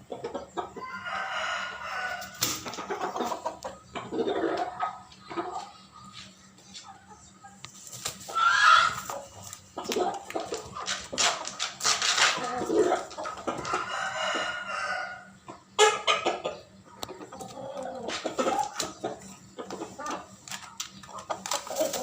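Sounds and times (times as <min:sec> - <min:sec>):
chickens clucking and calling: 0:00.0 - 0:22.0.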